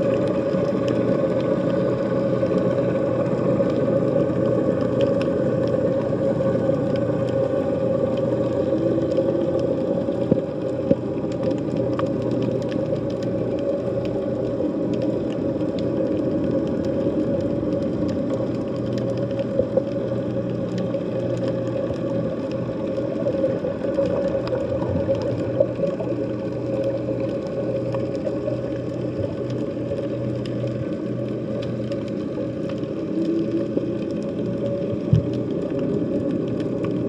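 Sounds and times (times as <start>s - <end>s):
faint underwater clicks: 0.0s - 37.0s
underwater drone of held tones: 0.0s - 37.0s.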